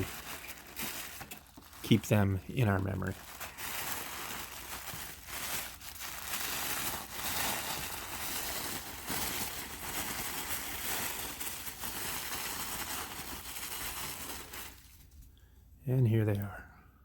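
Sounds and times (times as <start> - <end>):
plastic and cardboard crinkling: 0.0 - 15.3.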